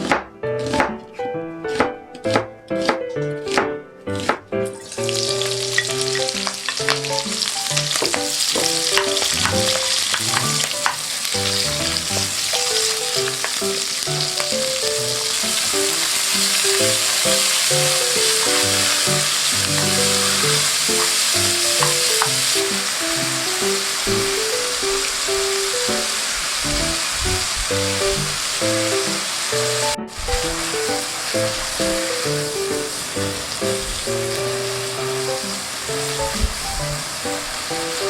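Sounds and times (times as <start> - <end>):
fish frying in hot oil: 4.2 - 38.0.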